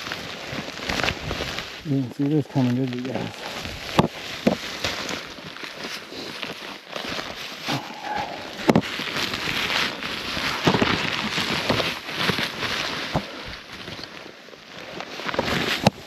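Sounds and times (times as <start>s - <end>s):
snowshoe steps crunching snow: 0.0s - 16.0s.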